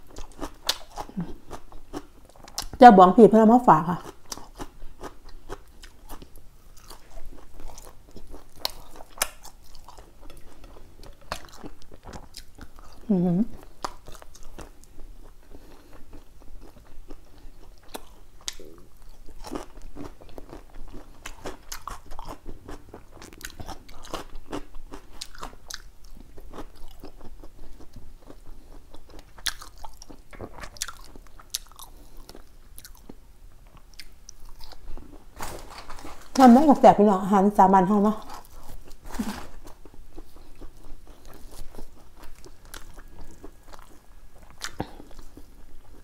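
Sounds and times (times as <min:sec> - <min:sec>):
person chewing food: 0:00.0 - 0:02.8, 0:04.0 - 0:36.5, 0:38.2 - 0:46.0.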